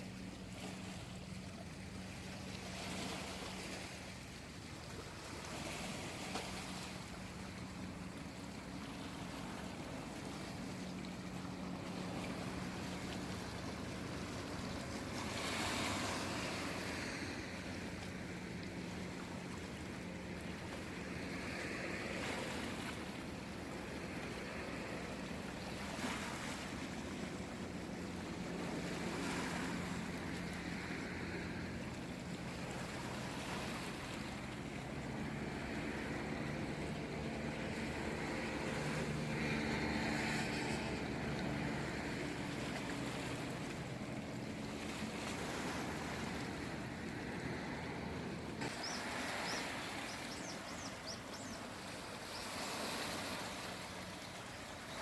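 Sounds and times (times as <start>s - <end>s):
small sea waves washing in: 0.0s - 55.0s.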